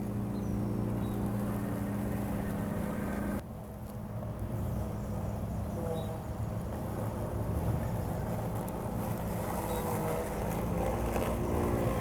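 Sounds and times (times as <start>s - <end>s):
lawn mower electric motors humming: 0.0s - 12.0s.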